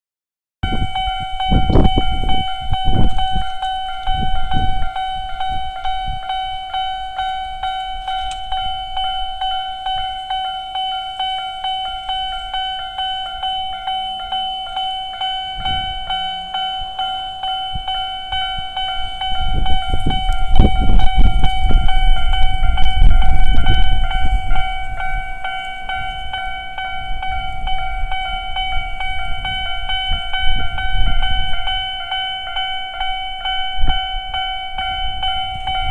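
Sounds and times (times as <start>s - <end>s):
level-crossing alarms ringing: 0.6s - 35.9s
passing train rumble and clatter: 0.6s - 35.9s.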